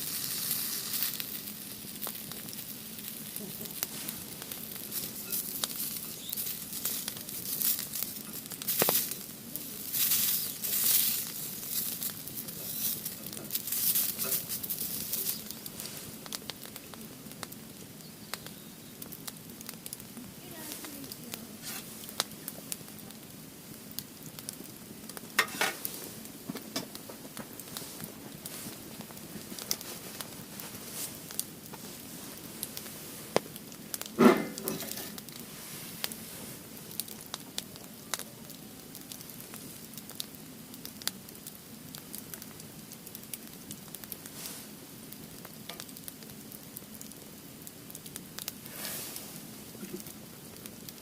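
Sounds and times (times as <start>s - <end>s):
firewood crackling with pops: 0.0s - 51.0s.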